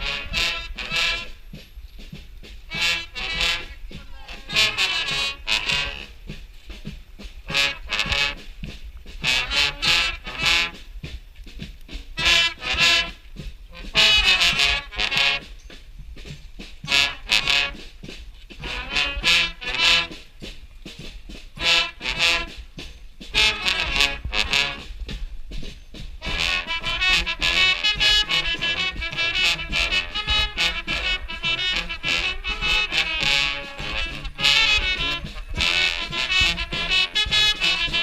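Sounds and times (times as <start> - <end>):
street brass band playing: 0.0 - 38.0.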